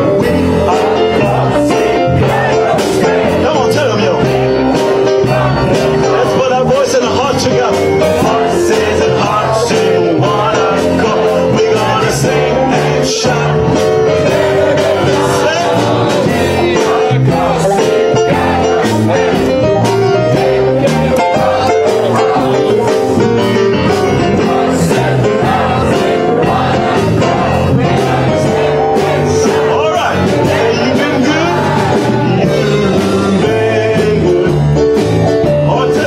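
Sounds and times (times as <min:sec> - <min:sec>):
mixed choir singing: 0:00.0 - 0:34.8
instrumental accompaniment with beat: 0:00.0 - 0:36.0.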